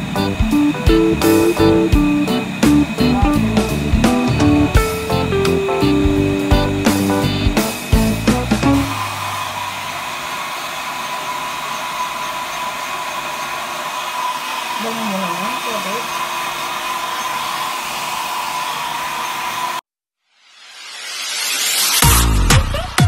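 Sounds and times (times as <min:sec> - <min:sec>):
hair dryer running: 0:00.0 - 0:19.9.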